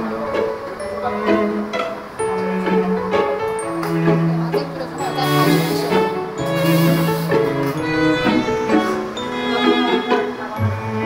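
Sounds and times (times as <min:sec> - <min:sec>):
instrumental music sustained notes: 0:00.0 - 0:11.0.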